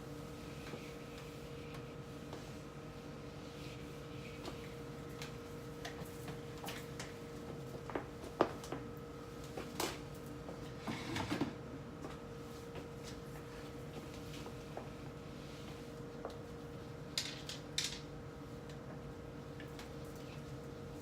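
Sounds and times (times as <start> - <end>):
refrigerator hum: 0.0 - 21.0.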